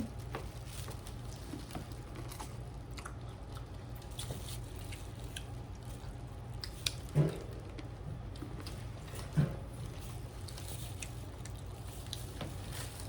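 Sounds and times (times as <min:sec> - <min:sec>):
chewing and wet smacks: 0:00.0 - 0:08.8, 0:10.2 - 0:13.0
steady low hum: 0:00.0 - 0:13.0.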